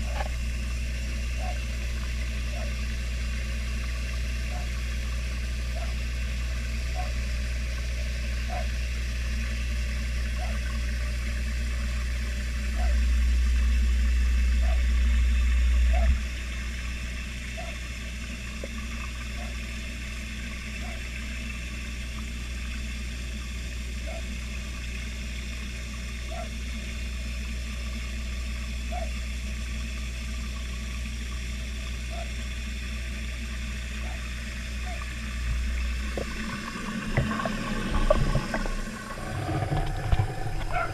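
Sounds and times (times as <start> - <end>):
low hum: 0.0 - 40.9.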